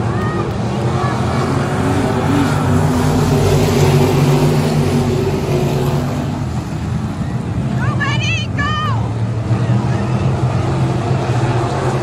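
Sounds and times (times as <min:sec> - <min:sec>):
stock car engines racing past: 0:00.0 - 0:12.0.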